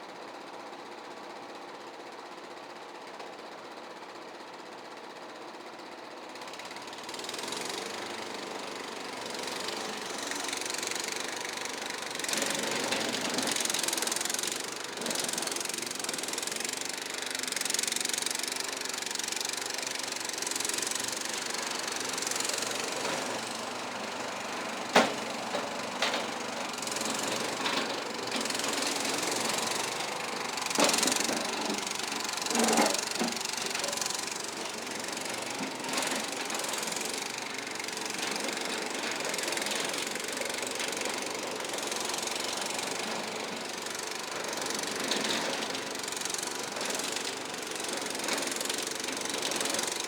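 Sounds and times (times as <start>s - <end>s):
bulldozer engine running: 6.8s - 50.0s.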